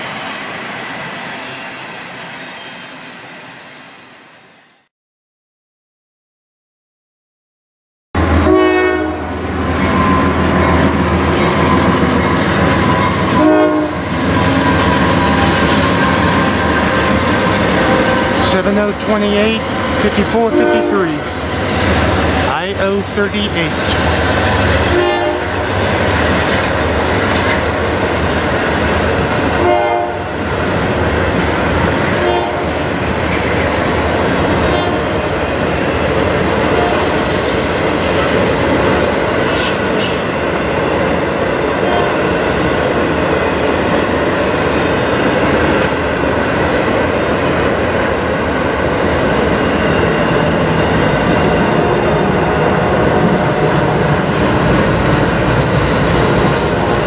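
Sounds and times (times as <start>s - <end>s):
train wheels rumbling on rail: 8.2s - 57.0s.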